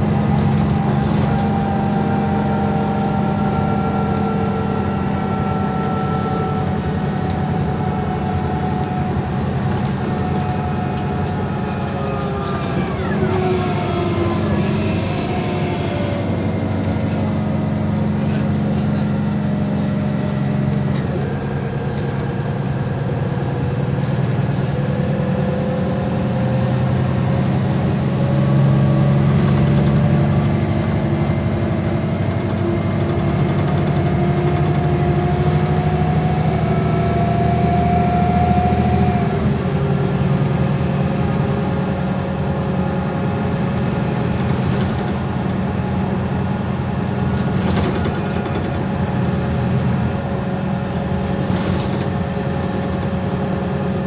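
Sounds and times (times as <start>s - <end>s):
bus engine hum with whine: 0.0s - 54.0s.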